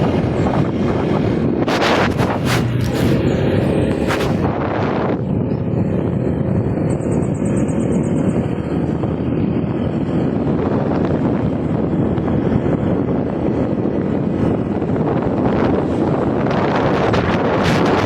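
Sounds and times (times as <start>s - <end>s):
vehicle rumble: 0.0s - 18.0s
wind buffeting microphone: 0.0s - 18.0s.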